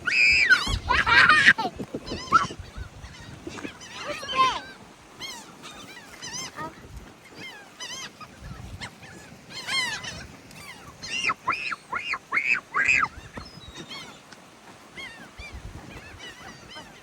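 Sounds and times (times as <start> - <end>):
seagulls calling: 0.0 - 17.0.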